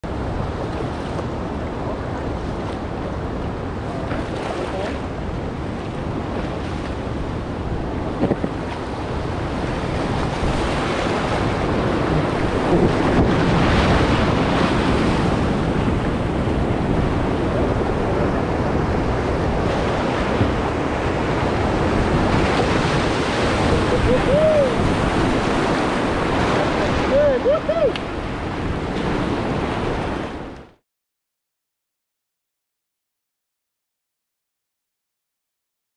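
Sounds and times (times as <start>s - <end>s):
rushing whitewater: 0.1s - 30.5s
wind buffeting microphone: 0.1s - 30.6s.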